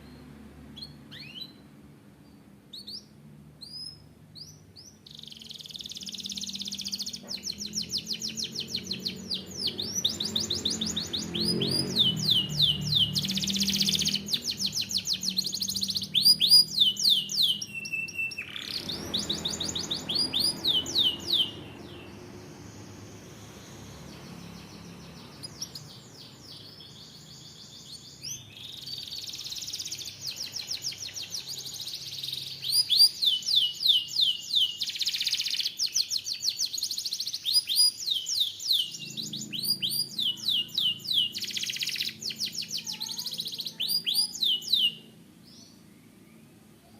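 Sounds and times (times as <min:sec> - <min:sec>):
canary singing in trills: 0:00.0 - 0:46.9.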